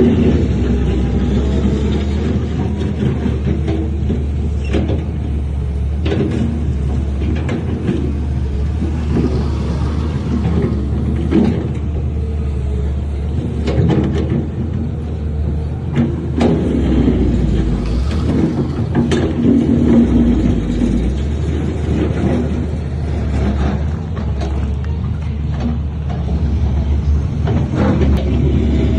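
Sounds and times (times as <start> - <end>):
diesel machinery running: 0.0 - 28.9.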